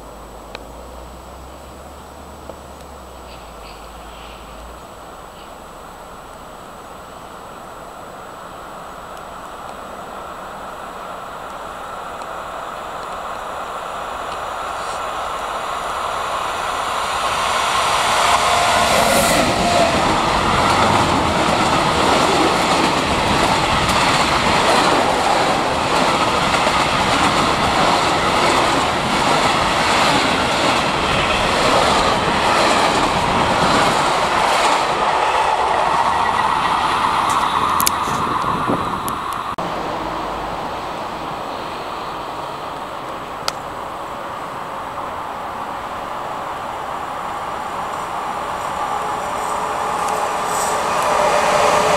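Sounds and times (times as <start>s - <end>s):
freight train rumbling past: 0.0s - 51.9s.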